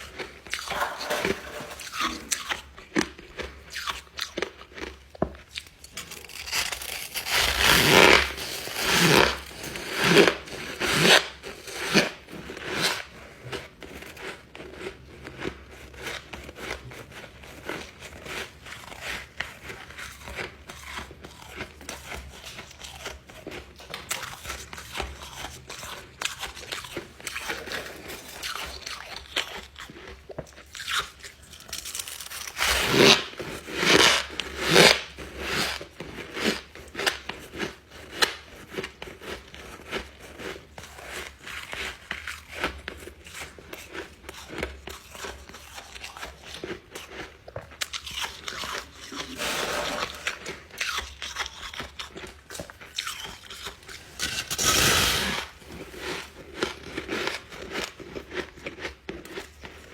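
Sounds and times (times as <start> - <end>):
ice crunching being chewed: 0.0 - 49.7, 50.6 - 59.9.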